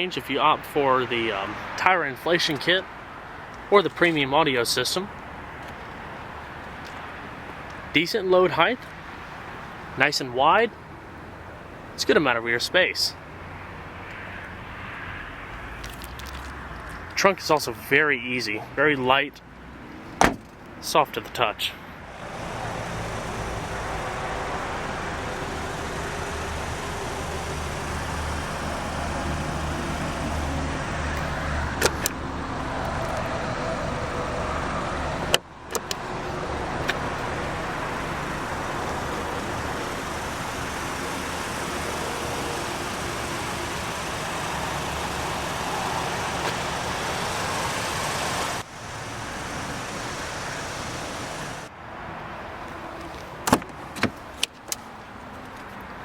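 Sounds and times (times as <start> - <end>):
vehicle noise with low hum: 0.0 - 56.0.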